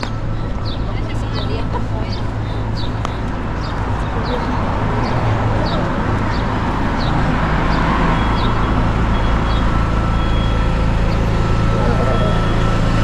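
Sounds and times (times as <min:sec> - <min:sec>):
street traffic: 0:00.0 - 0:13.0
vehicle engine running: 0:00.0 - 0:13.0.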